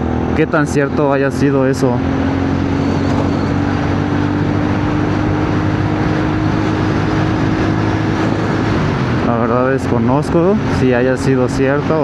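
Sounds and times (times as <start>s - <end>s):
motorcycle engine running: 0.0s - 12.0s
wind rush on microphone: 2.0s - 12.0s.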